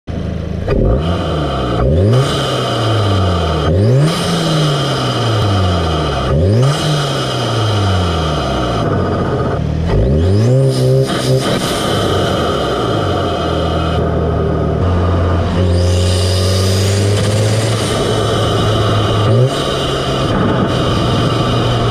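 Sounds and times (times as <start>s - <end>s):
car engine revving: 0.1s - 21.9s.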